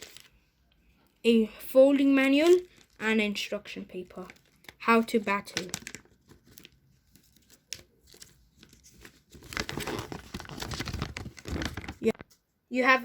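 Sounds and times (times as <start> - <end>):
paper crinkling and rustling: 0.0 - 0.4, 2.3 - 12.4.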